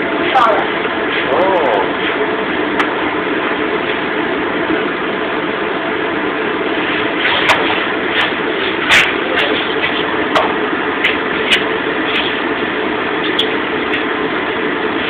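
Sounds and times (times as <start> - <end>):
gas burners and exhaust hood rushing: 0.0 - 15.0.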